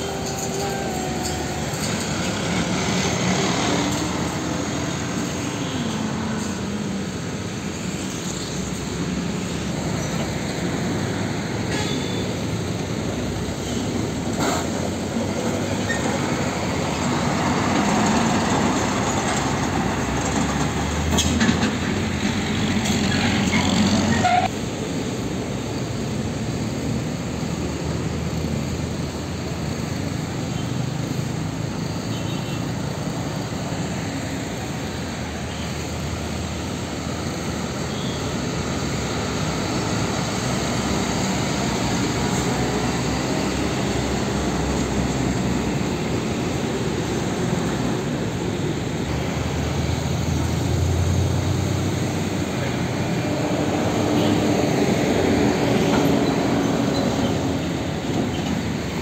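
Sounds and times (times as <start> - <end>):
truck engine low rumble: 0.0 - 32.0, 32.8 - 59.0
diesel trucks passing: 0.0 - 59.0
road traffic passing: 0.0 - 59.0.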